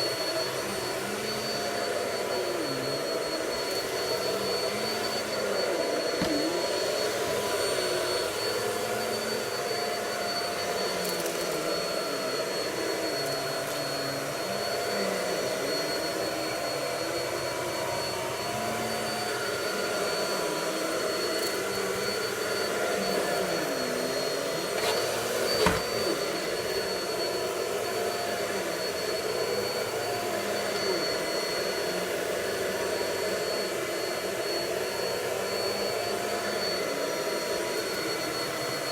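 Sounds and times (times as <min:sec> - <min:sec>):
vacuum cleaner whine: 0:00.0 - 0:38.9.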